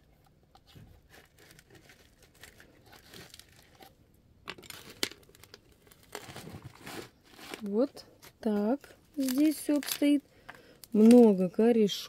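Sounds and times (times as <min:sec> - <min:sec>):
potting soil rustling and crackling: 0:00.0 - 0:12.0.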